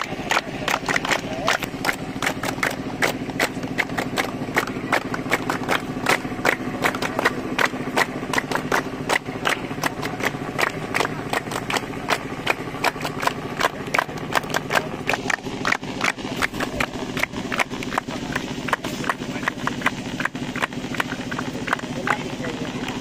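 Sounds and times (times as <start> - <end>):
low hum: 0.0 - 23.0
people clapping hands: 0.0 - 23.0.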